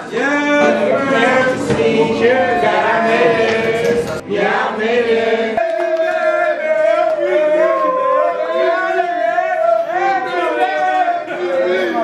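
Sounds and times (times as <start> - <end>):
male voices chanting: 0.0 - 12.0.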